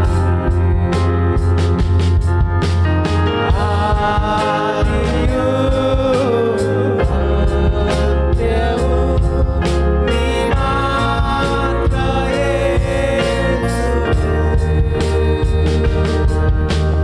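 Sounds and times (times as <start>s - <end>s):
person singing: 0.0s - 2.3s, 3.2s - 17.0s
band with drums and bass: 0.0s - 17.0s.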